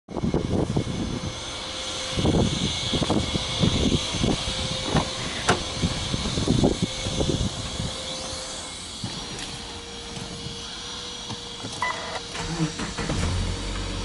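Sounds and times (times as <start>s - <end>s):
steady mechanical drone: 0.1s - 14.0s.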